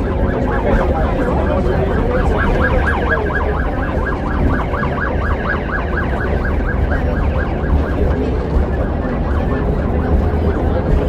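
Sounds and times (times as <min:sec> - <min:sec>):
bus engine rumbling: 0:00.0 - 0:11.0
emergency siren yelping: 0:00.0 - 0:11.0.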